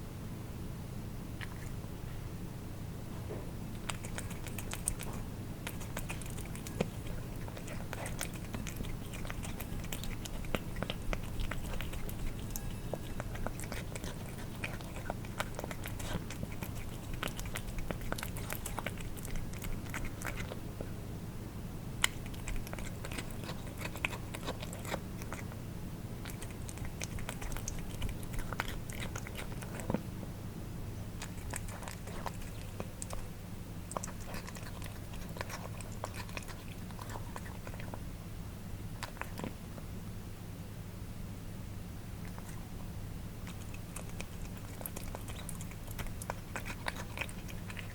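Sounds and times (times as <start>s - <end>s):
low steady hum: 0.0s - 47.9s
cats eating wet food: 1.3s - 1.9s, 3.7s - 21.0s, 21.8s - 30.2s, 31.0s - 40.0s, 42.1s - 47.9s.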